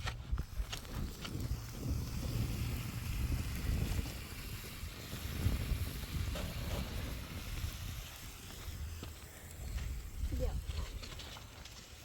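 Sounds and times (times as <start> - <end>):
wind buffeting microphone: 0.0 - 11.4
faint hiss: 0.8 - 12.0.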